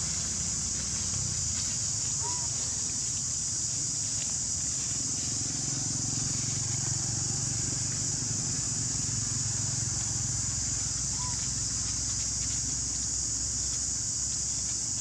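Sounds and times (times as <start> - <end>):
high-pitched insect drone: 0.0 - 15.0
low constant rumble: 0.0 - 15.0.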